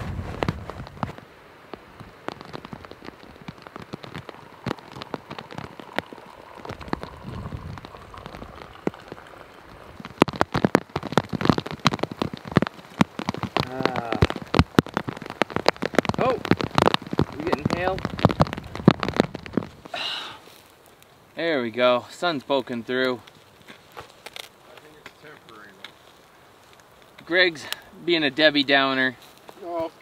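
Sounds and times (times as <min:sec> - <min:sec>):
rain falling: 0:00.0 - 0:30.0
raindrops ticking: 0:00.3 - 0:30.0.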